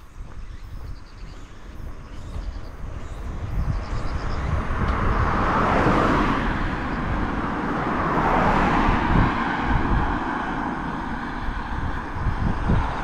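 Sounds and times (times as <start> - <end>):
car passing on asphalt: 0.0 - 13.0.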